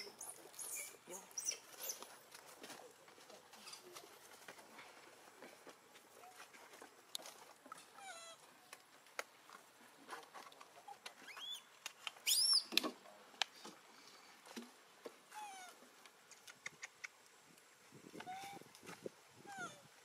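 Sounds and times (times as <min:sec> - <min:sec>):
small clicks and rustles: 0:01.6 - 0:19.2.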